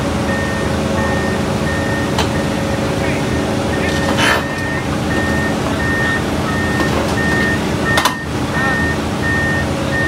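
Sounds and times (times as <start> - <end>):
diesel machinery droning: 0.0 - 10.0
backup alarm beeping: 0.3 - 2.9, 3.6 - 10.0.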